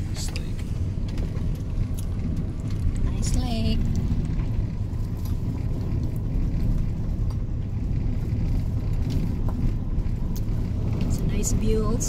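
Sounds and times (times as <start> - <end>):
car interior road and engine rumble: 0.0 - 12.0.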